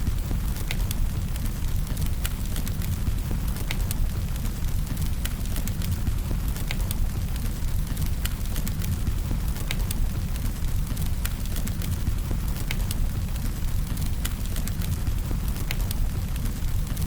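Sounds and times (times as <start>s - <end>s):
fire crackles and pops: 0.0s - 17.0s
firewood burning: 0.1s - 17.0s.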